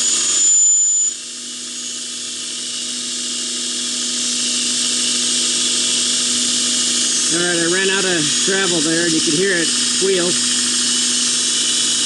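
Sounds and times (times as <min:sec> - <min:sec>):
machine whine over a hum: 0:00.0 - 0:12.0.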